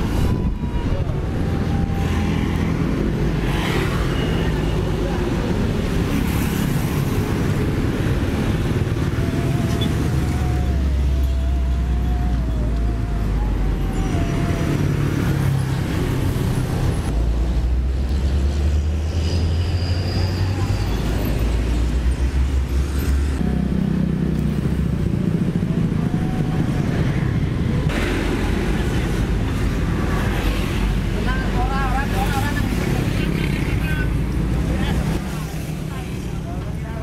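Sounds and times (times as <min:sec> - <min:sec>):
diesel truck engines rumbling: 0:00.0 - 0:37.0
road traffic passing: 0:00.0 - 0:37.0.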